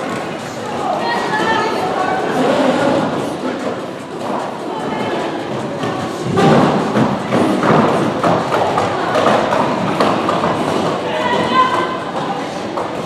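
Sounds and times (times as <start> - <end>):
skate wheels rumbling on floor: 0.0 - 13.0.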